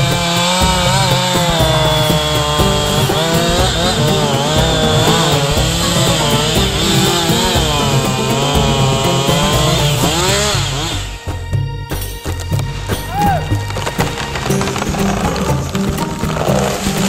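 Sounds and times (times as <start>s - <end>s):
chainsaw cutting wood: 0.0s - 11.3s, 13.6s - 17.0s
background music: 0.0s - 17.0s.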